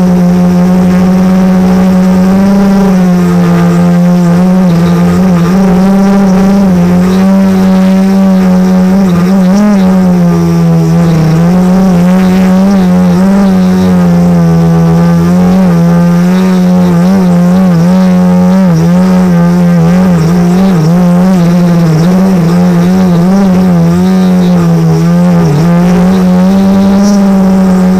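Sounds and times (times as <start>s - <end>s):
drone propellers buzzing: 0.0s - 27.9s.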